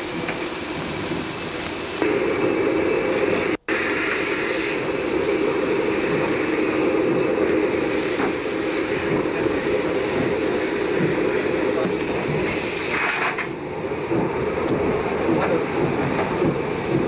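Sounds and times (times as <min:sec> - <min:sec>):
rush and hiss of steam: 0:00.0 - 0:17.0.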